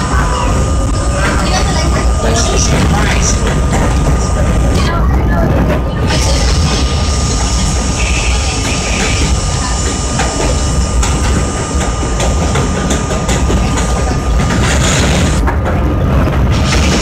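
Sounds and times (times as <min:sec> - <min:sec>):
steady high tone: 0:00.0 - 0:15.4
subway car rumble: 0:00.0 - 0:17.0.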